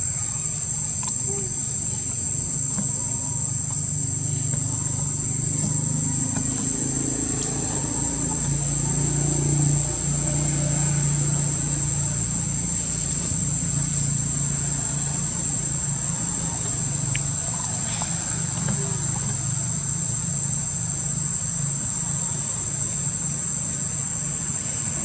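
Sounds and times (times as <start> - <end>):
high insect whine: 0.0 - 25.0.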